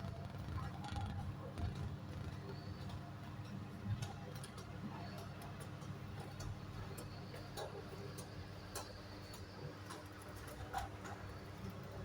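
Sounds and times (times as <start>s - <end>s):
light clicks and ticks: 0.3s - 11.9s.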